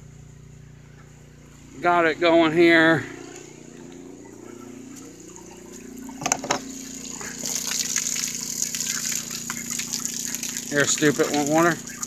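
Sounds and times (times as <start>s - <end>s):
pump hum: 0.0s - 12.0s
water spraying from garden hose: 1.4s - 12.0s.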